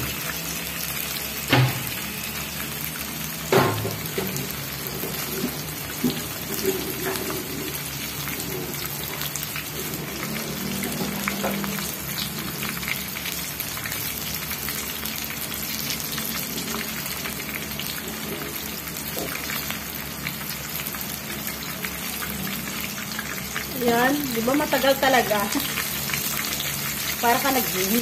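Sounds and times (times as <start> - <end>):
chicken frying in hot oil: 0.0 - 28.0.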